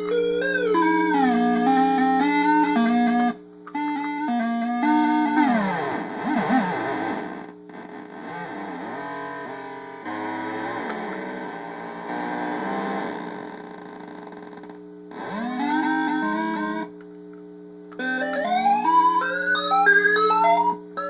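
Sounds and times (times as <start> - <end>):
glitchy electronic tones: 0.0 - 17.0
steady low hum: 0.0 - 21.0.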